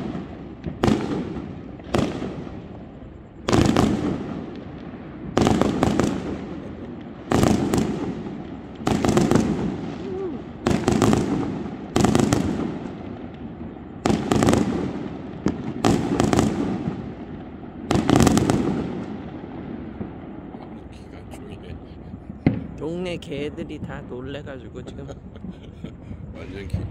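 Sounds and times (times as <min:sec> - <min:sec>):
fireworks booming: 0:00.0 - 0:26.9.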